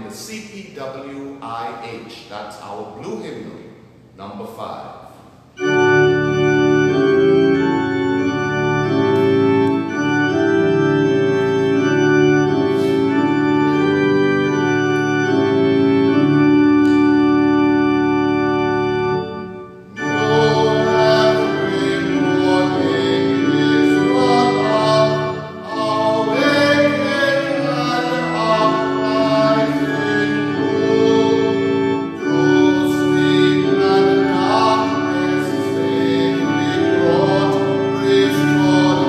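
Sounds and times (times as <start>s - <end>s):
organ playing hymn chords: 5.4s - 39.0s.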